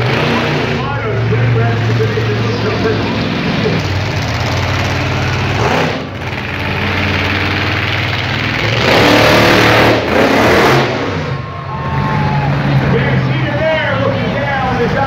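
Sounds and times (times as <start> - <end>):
truck engine running hard: 0.0 - 15.0.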